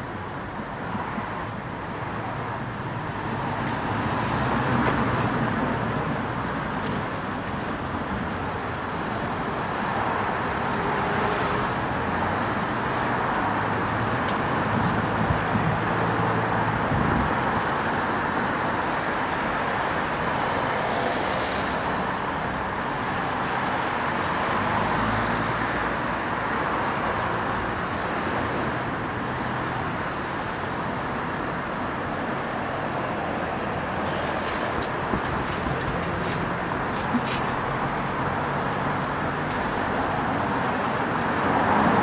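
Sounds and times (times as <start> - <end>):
cars and buses passing: 0.0 - 42.0.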